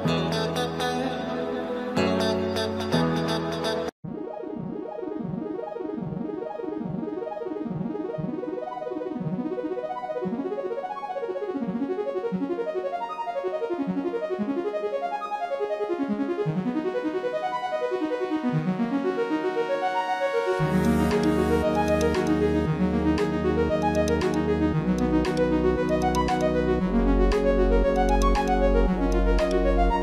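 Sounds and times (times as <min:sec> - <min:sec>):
piano-like keyboard melody: 0:00.0 - 0:30.0.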